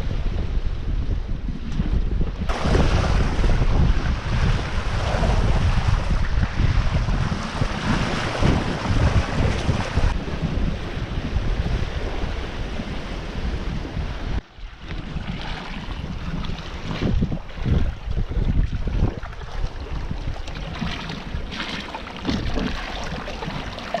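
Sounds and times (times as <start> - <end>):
wind buffeting microphone: 0.0 - 24.0
waves rushing past boat: 2.4 - 24.0.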